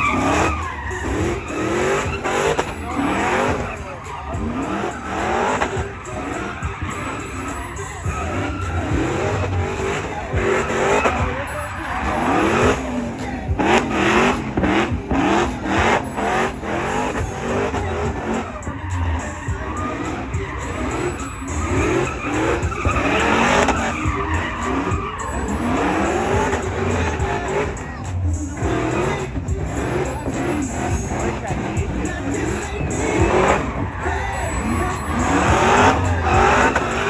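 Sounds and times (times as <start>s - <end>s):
car engine revving: 0.0s - 37.0s
tyres squealing: 0.0s - 37.0s.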